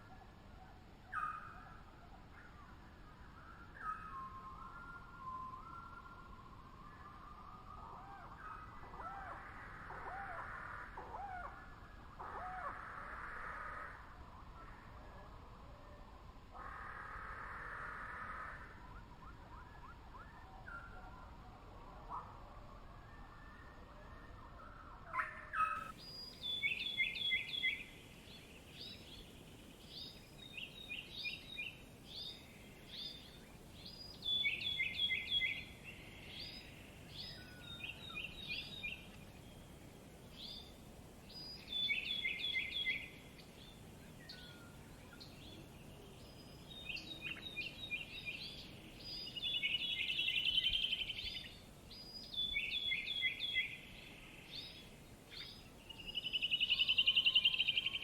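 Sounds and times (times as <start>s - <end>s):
low background hiss: 0.0s - 58.0s
songbird singing: 0.0s - 58.0s.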